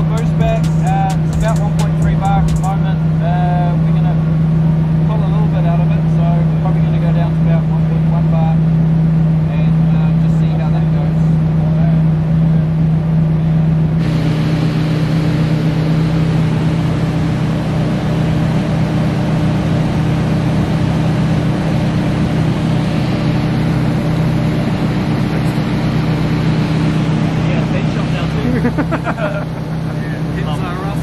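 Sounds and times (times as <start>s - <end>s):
engine droning at steady speed: 0.0s - 31.0s.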